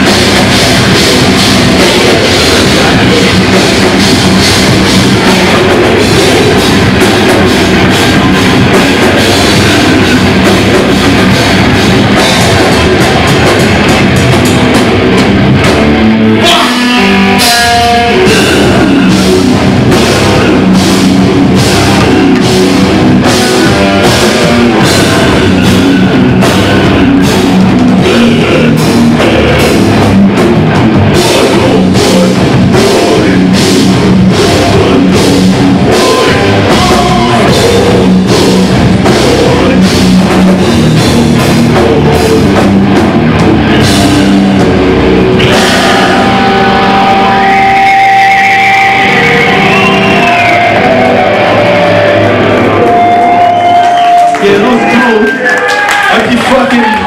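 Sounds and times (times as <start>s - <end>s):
electric guitars: 0.0s - 57.0s
pounding drum kit: 0.0s - 57.0s.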